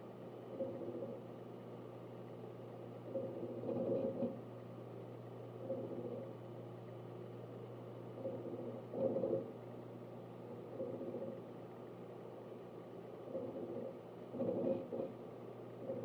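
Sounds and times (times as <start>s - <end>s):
hard drive seek chatter: 0.0s - 16.0s
steady fan hum: 0.0s - 16.0s.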